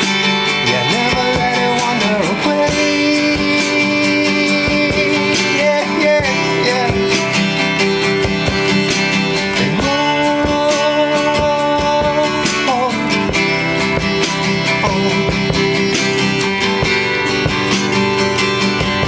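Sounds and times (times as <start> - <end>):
acoustic guitar strumming: 0.0 - 19.0
percussion hits: 0.0 - 19.0.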